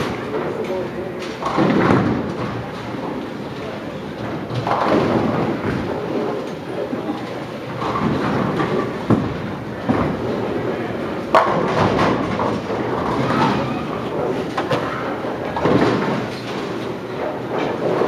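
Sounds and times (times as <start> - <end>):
bowling ball rolling: 0.0 - 18.0
bowling pins crashing: 0.0 - 18.0
rumble of bowling alley lanes: 0.0 - 18.0.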